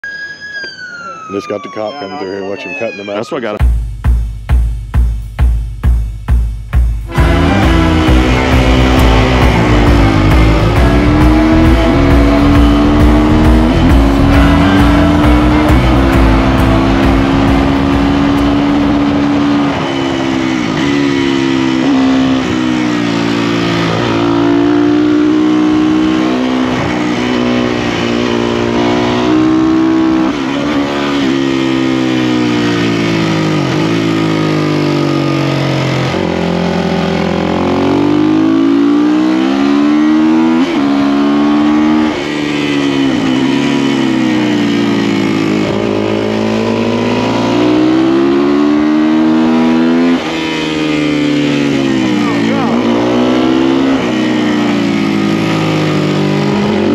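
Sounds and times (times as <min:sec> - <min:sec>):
motorcycle engine accelerating: 0:02.6 - 0:56.9.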